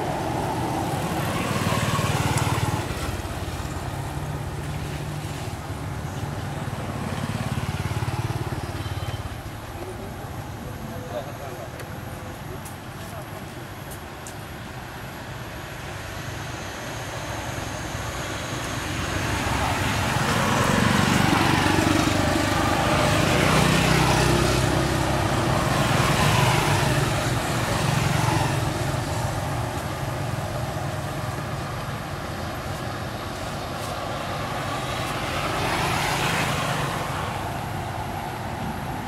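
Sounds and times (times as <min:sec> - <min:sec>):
vehicles driving past: 0:00.0 - 0:39.0.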